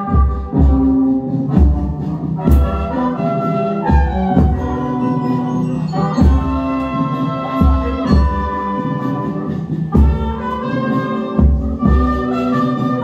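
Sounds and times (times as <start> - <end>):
marching bass drum beats: 0.0 - 13.0
recorded brass band music: 0.0 - 13.0.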